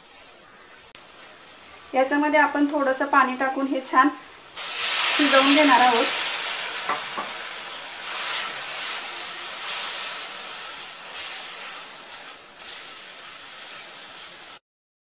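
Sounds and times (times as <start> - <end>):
spatula stirring in pan: 0.0 - 3.0, 4.4 - 14.6
oil sizzling and hissing: 0.0 - 14.6.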